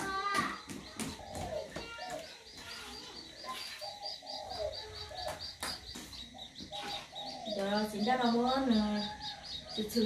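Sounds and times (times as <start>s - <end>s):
birds chirping: 0.0s - 10.0s
lower falling bird calls: 0.0s - 10.0s.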